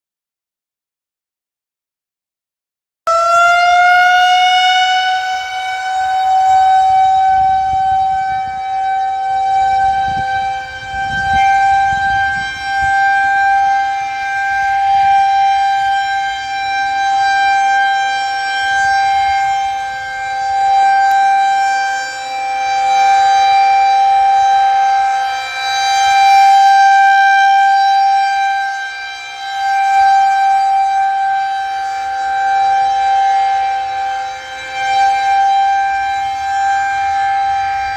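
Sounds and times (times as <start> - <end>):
warning siren wailing: 3.1 - 37.9.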